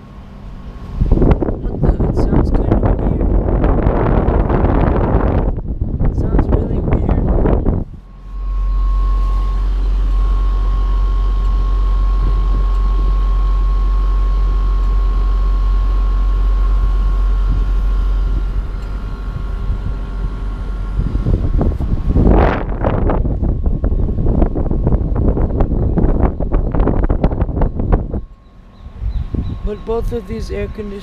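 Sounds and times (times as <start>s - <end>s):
air conditioner hum and whine: 0.0s - 31.0s.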